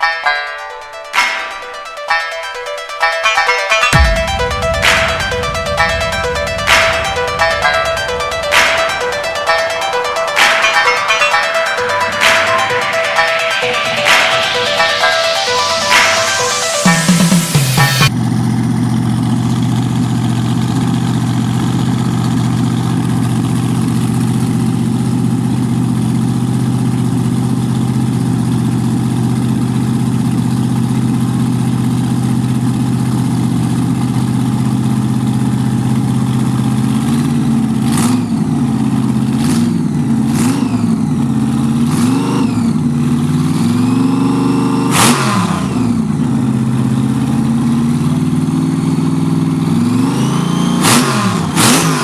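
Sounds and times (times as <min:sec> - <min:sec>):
car engine idling and revving: 0:04.0 - 0:10.6, 0:12.2 - 0:52.0.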